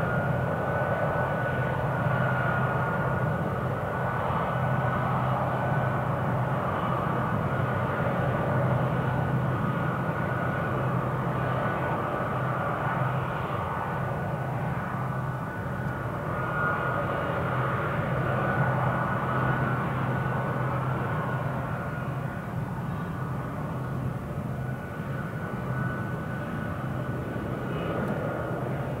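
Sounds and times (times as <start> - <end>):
jet engines idling: 0.0 - 29.0.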